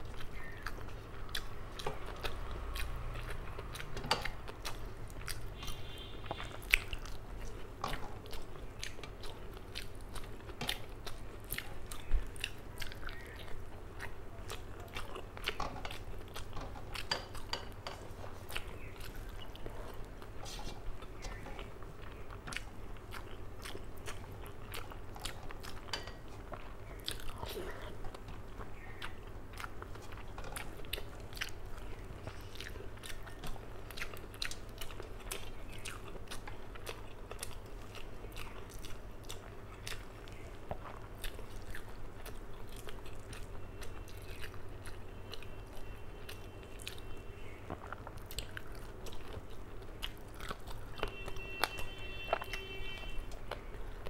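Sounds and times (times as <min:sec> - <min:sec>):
chewing with wet mouth smacks: 0:00.0 - 0:54.0.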